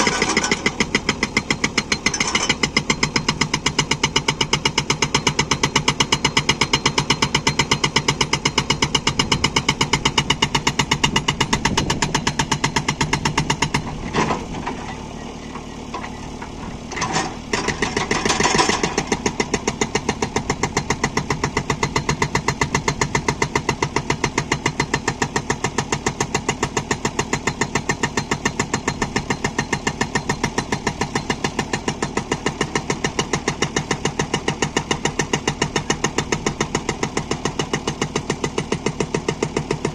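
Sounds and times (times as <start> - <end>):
diesel engine running: 0.0 - 39.9
hydraulic breaker hammering stone: 0.0 - 39.9.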